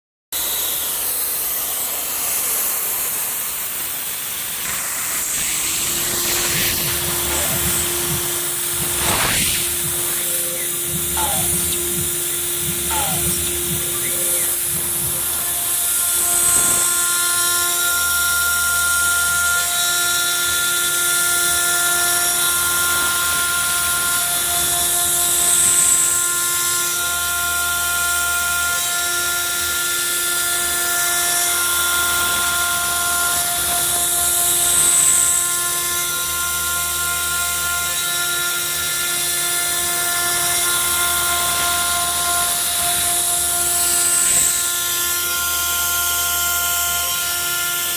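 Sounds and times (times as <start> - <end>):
router spindle cutting rubber: 0.4 - 47.9.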